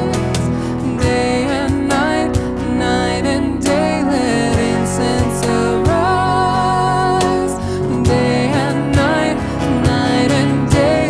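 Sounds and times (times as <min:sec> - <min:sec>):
worship band music: 0:00.0 - 0:11.0.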